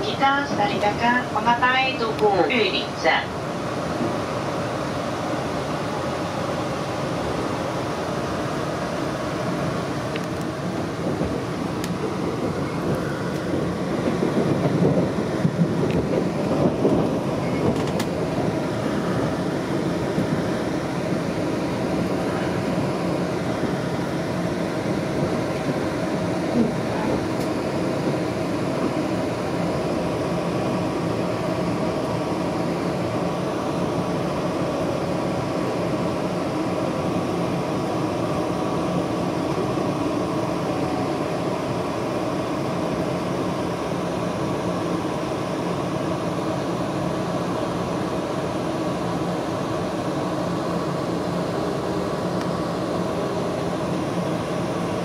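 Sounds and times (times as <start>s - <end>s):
train rumble and rail noise: 0.0s - 55.0s.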